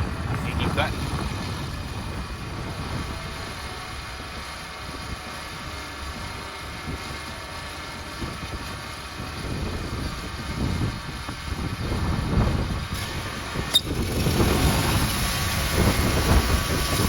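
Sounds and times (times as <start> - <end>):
band sawmill cutting log: 0.1 - 17.0.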